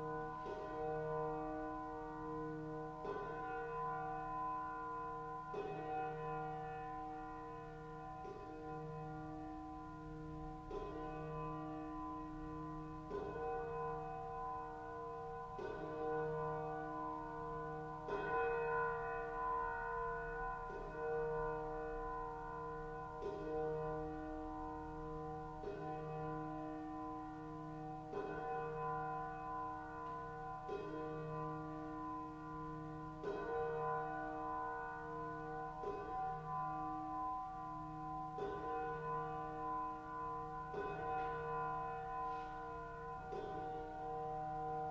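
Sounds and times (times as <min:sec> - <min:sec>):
bell tolling: 0:00.0 - 0:44.9.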